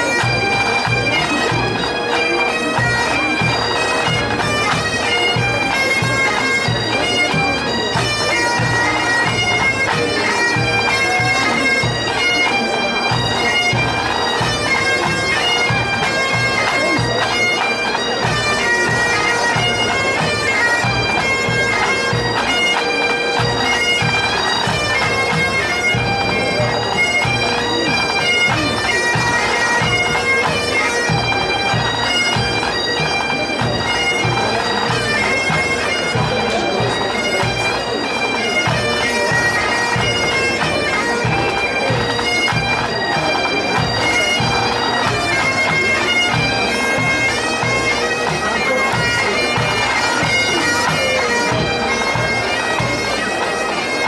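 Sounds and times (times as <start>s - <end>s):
bagpipes playing over drone: 0.0s - 54.0s.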